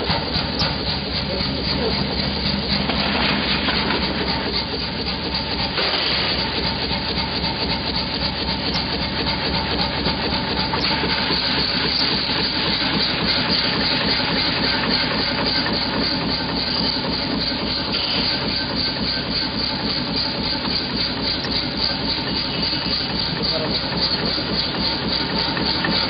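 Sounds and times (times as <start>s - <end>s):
forging hammer pounding metal: 0.0s - 26.0s.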